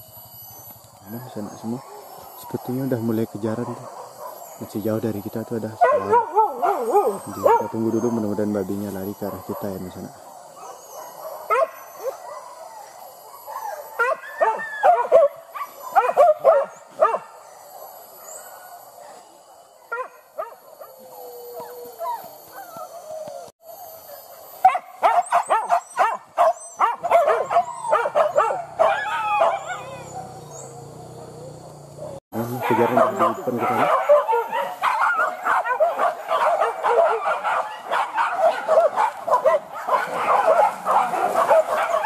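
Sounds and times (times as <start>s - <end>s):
dogs barking: 3.4s - 19.0s, 19.8s - 23.1s, 24.1s - 42.0s.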